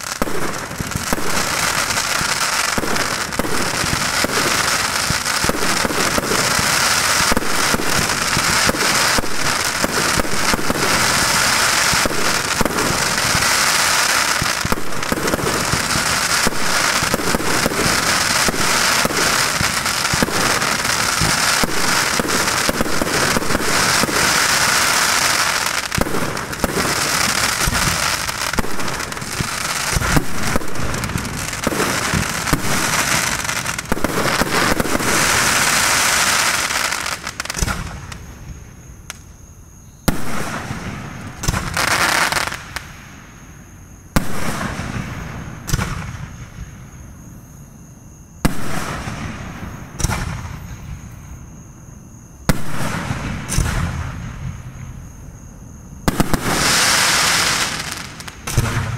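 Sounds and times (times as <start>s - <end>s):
fireworks bangs: 0.0s - 39.3s, 40.0s - 43.3s, 44.1s - 47.0s, 48.4s - 51.4s, 52.4s - 55.2s, 56.0s - 58.9s
fireworks crackling and popping: 0.0s - 39.4s, 40.0s - 43.4s, 44.2s - 46.9s, 48.4s - 51.1s, 52.4s - 55.2s, 56.0s - 58.9s.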